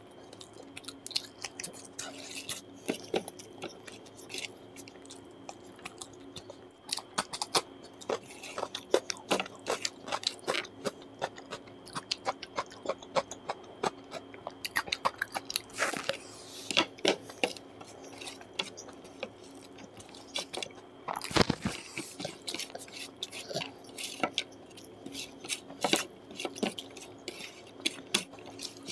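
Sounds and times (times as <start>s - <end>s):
person chewing and biting: 0.4s - 28.9s.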